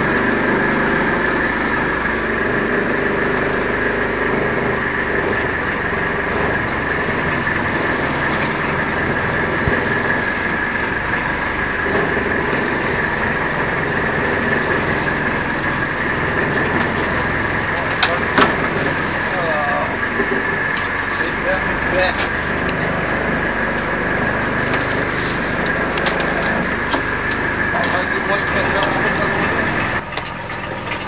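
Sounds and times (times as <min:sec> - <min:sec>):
boat engine running: 0:00.0 - 0:31.0
high whine: 0:00.0 - 0:31.0.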